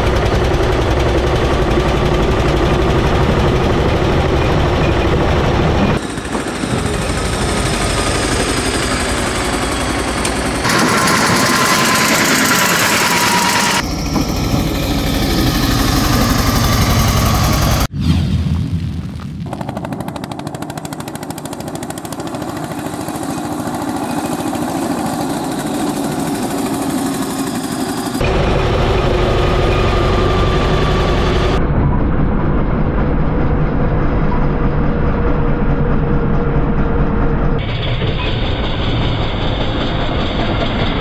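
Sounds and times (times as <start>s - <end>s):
diesel tractor engines running: 0.0s - 17.9s, 19.5s - 31.7s, 34.2s - 41.0s.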